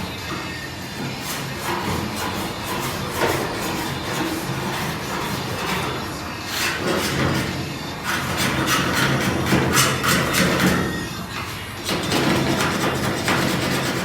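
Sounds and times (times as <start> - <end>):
hand tool scraping metal: 0.0 - 14.0.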